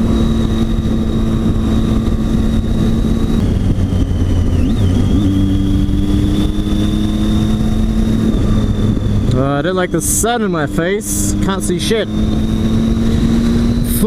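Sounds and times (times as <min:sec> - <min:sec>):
motorcycle engine running: 0:00.0 - 0:14.0
rushing wind and road noise: 0:00.0 - 0:14.0.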